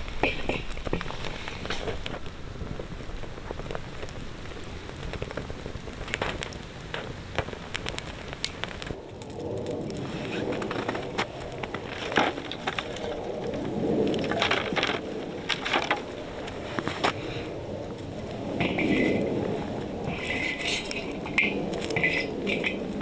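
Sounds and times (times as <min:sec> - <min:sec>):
campfire crackling and popping: 0:00.0 - 0:23.0
fire hiss: 0:00.0 - 0:23.0.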